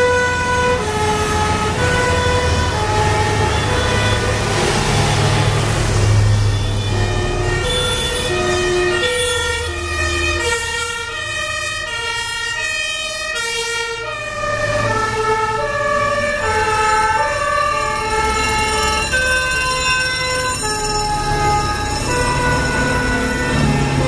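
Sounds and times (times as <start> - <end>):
fire engine two-tone sirens: 0.0 - 24.0.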